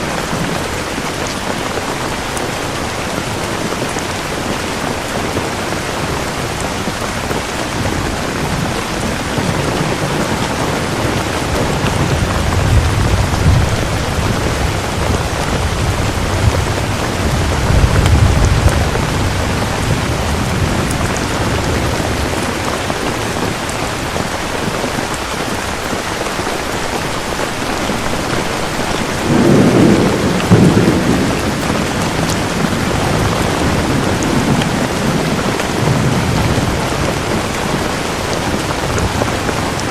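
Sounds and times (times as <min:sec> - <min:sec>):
steady rain falling: 0:00.0 - 0:39.9
thunder rumbling: 0:00.1 - 0:25.5, 0:27.2 - 0:39.9.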